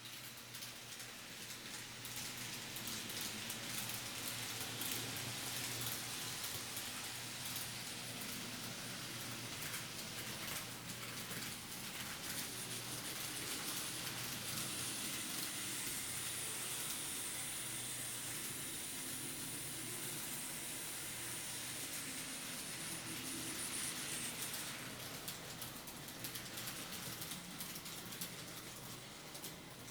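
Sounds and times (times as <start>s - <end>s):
model train motor hum: 2.5s - 27.3s.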